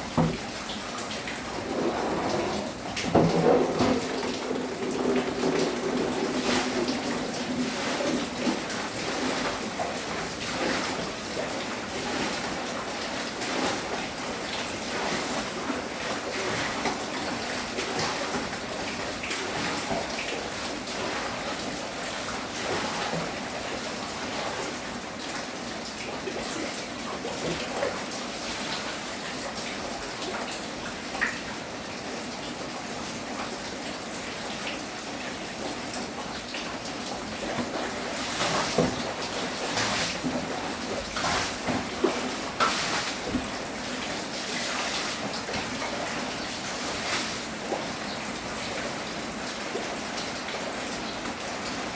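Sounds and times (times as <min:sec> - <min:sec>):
steady rain: 0:00.0 - 0:51.9
water running and splashing: 0:00.0 - 0:51.9.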